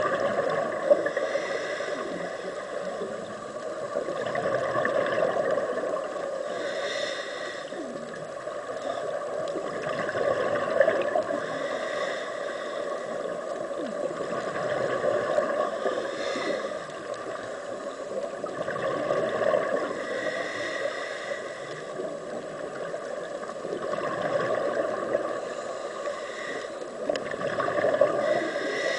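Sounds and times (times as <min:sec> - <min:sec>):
steady hiss: 0:00.0 - 0:28.9
underwater gurgling bubbles: 0:00.0 - 0:28.9.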